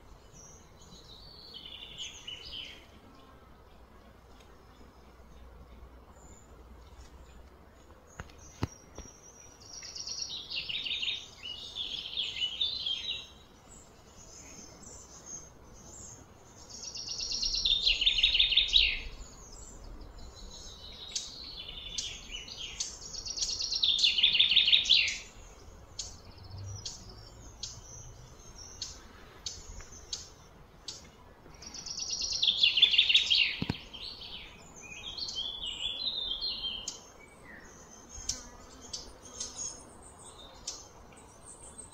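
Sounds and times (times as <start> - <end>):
bird singing trilled phrases: 8.2 - 41.9.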